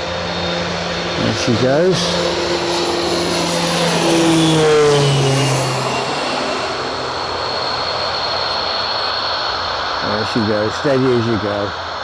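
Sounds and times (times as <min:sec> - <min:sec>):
propeller airliner engines passing: 0:00.0 - 0:12.0
steady high whine: 0:00.0 - 0:12.0.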